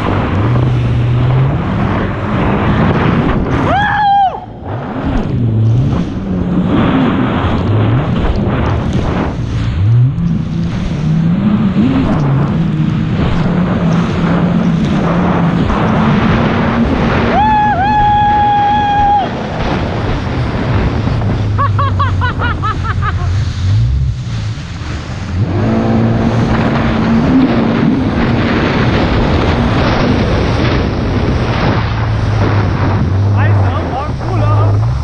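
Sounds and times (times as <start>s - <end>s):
hull slapping waves: 0.0s - 35.0s
jet ski engine: 0.0s - 35.0s.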